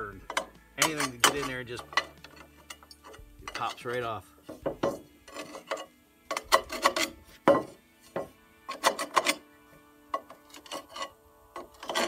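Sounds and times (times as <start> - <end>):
screwdriver scraping steel: 0.2 - 9.5, 10.1 - 12.0.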